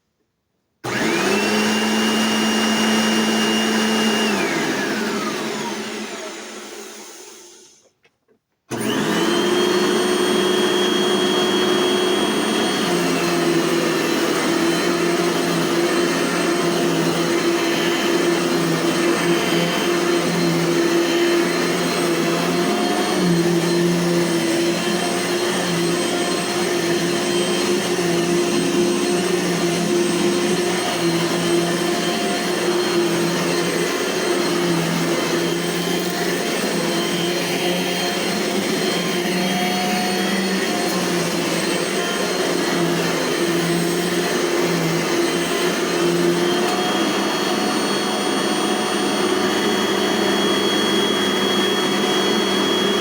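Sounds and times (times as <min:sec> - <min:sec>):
vacuum cleaner motor: 0:00.8 - 0:08.0, 0:08.7 - 0:53.0.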